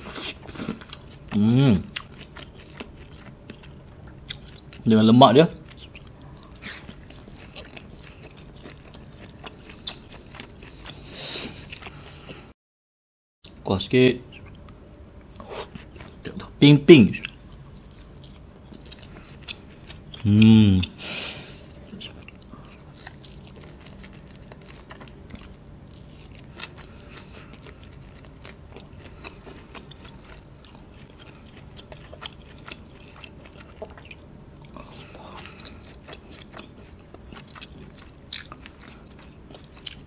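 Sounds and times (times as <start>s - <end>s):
chewing meat: 0.0s - 4.9s, 5.5s - 12.4s, 14.3s - 16.5s, 17.1s - 21.0s, 21.8s - 40.0s
faint low hum: 0.0s - 12.5s, 13.5s - 40.0s.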